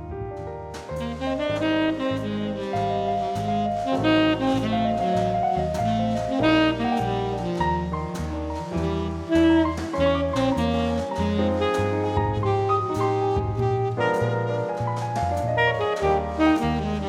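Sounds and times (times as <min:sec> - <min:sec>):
light drums: 0:00.0 - 0:17.0
saxophone-led jazz tune: 0:00.0 - 0:17.0
walking bass line: 0:00.0 - 0:17.0.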